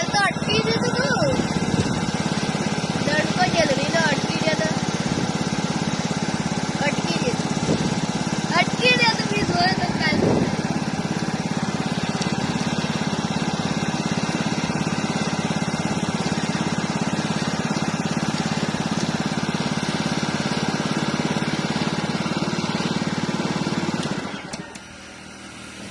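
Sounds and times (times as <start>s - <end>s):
small engine running: 0.0s - 25.9s.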